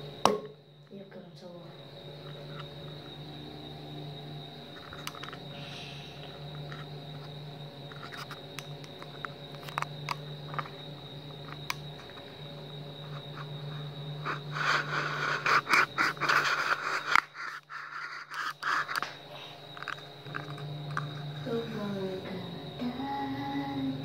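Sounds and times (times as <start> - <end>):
high-pitched whine: 0.0 - 24.0
low hum: 0.0 - 24.0.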